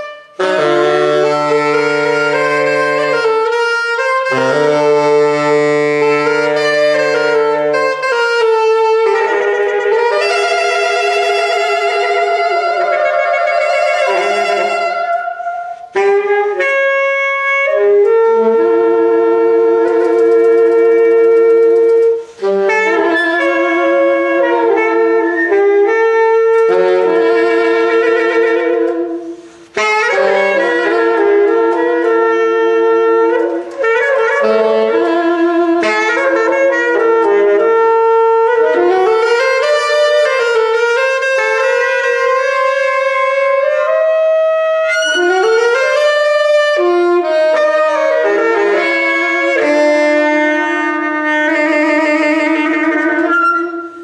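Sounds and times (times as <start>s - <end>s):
saxophone duet: 0.0s - 54.0s.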